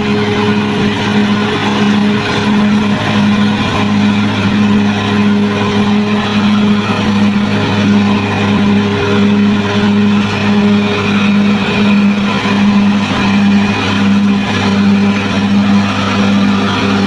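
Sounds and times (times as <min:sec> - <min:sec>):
bulldozer diesel engine running: 0:00.0 - 0:17.0.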